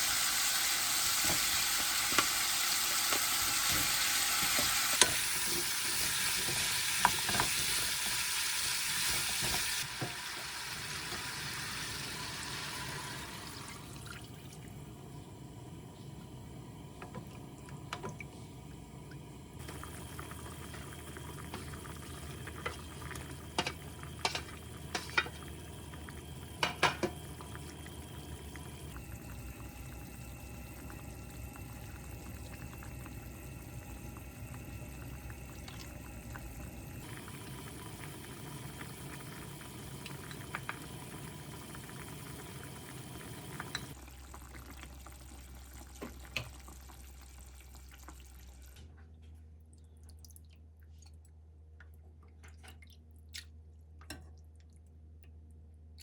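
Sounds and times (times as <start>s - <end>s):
water running and bubbling: 0.0s - 15.0s, 16.8s - 48.7s.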